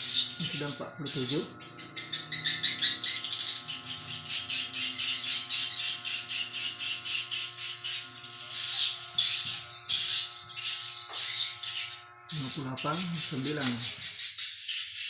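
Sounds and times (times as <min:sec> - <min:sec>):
faint steady hum: 0:00.0 - 0:14.4
swiftlets twittering: 0:00.0 - 0:15.0.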